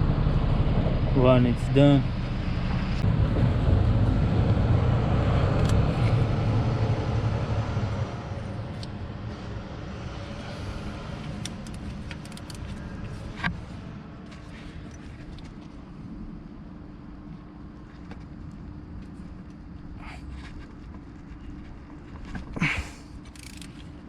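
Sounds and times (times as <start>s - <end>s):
motor vehicle rumble: 0.0s - 24.0s.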